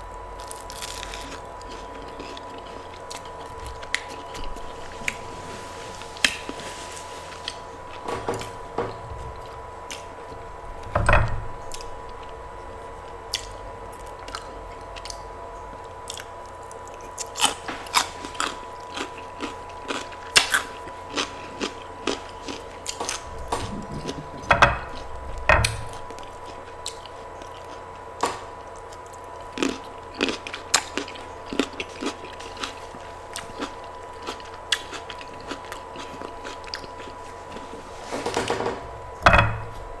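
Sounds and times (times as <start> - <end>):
chewing and crunching: 0.0 - 10.9, 11.5 - 38.4
faint steady hum: 0.0 - 40.0.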